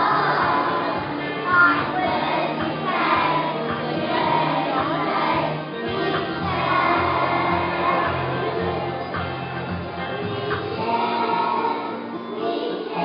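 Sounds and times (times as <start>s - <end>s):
steady bass notes: 0.0s - 11.5s
children singing together: 0.0s - 13.0s
instrumental accompaniment: 0.0s - 13.0s.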